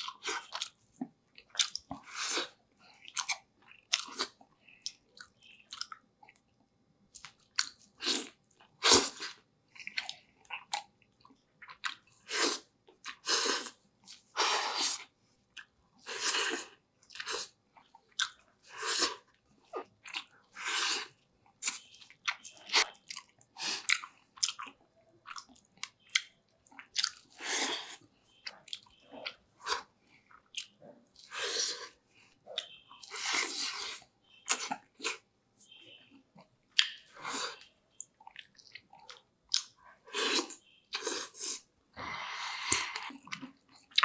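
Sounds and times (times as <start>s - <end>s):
person chewing food: 0.0s - 44.0s.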